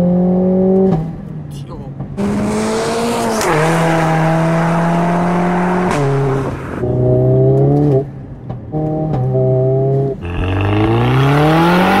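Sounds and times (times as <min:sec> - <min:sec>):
car engine accelerating: 0:00.0 - 0:08.1, 0:08.7 - 0:12.0.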